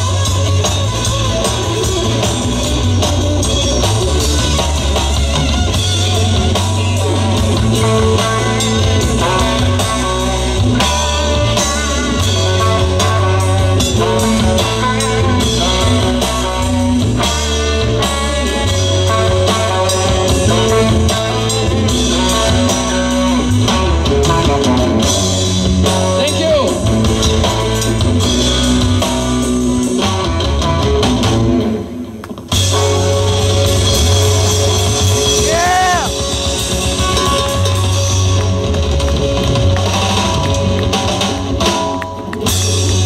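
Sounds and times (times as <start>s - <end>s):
bass guitar: 0.0s - 43.0s
drum kit: 0.0s - 43.0s
electric guitar: 0.0s - 43.0s.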